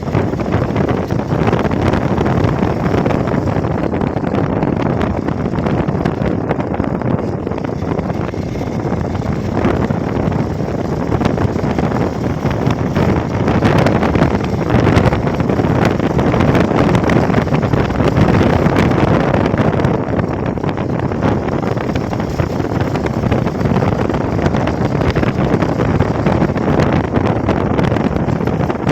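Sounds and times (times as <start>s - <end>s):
motorcycle running: 0.0s - 28.9s
wind buffeting microphone: 0.0s - 28.9s.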